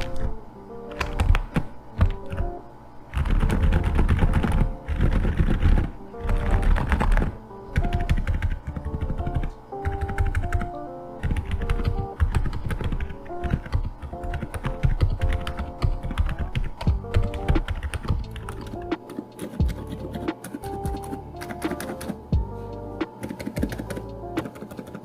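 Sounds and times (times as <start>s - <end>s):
background music: 0.0s - 25.0s
muted mechanical keyboard typing: 0.9s - 2.5s, 3.1s - 22.2s, 23.2s - 25.0s.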